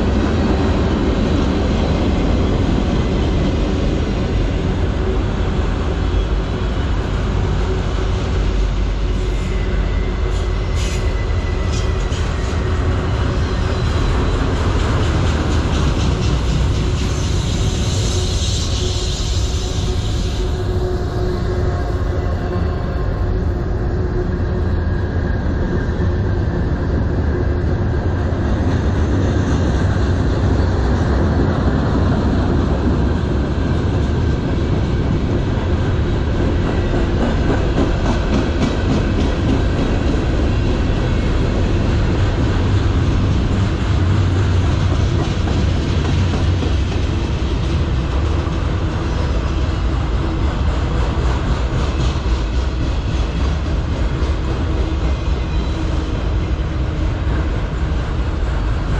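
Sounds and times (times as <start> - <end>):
wheels clickety-clack over rail joints: 0.0 - 23.4, 25.1 - 58.9
steel wheels rumbling on rails: 0.0 - 58.9.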